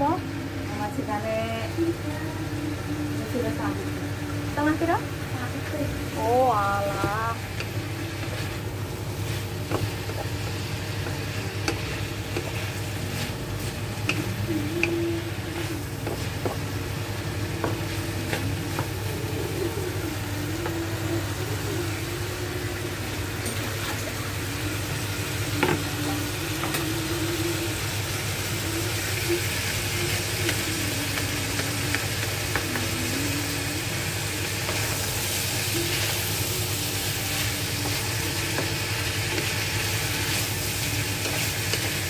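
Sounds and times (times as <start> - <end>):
vegetables sizzling in a wok: 0.0 - 42.0.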